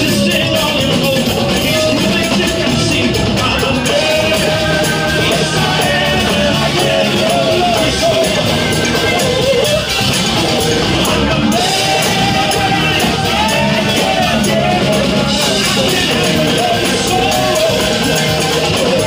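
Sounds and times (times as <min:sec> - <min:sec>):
live rock band playing: 0:00.0 - 0:19.0
man singing: 0:00.0 - 0:19.0.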